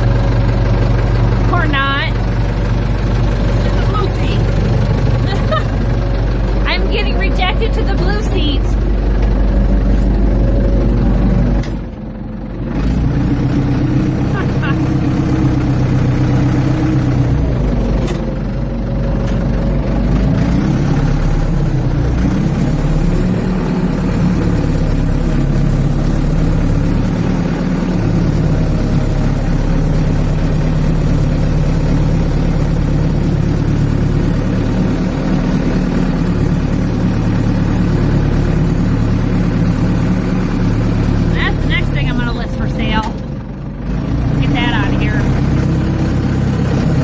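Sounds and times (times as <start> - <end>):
backhoe engine running: 0.0 - 47.0.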